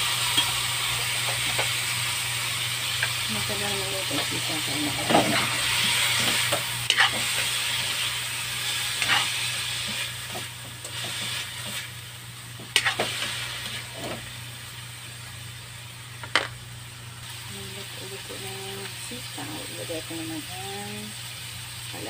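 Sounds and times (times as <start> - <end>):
food sizzling in a wok: 0.0 - 22.0.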